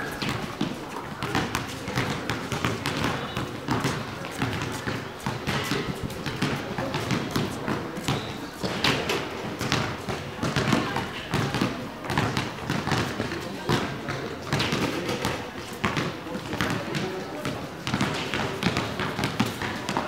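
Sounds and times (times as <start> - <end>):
basketball bouncing on concrete: 0.0 - 20.0
chatter of voices: 0.0 - 20.0
players' footsteps: 0.0 - 20.0.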